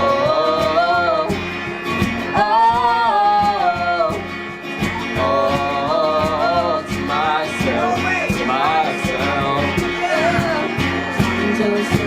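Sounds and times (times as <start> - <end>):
guitar accompaniment: 0.0 - 12.0.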